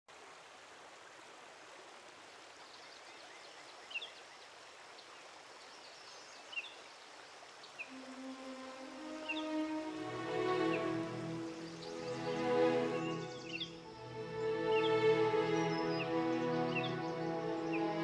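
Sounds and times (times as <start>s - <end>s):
flowing river water: 0.1s - 18.0s.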